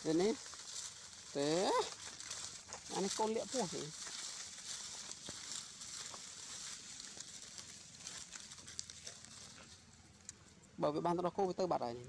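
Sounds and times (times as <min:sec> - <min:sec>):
footsteps on dry leaves: 0:00.0 - 0:10.3
steady high hiss: 0:00.0 - 0:12.0.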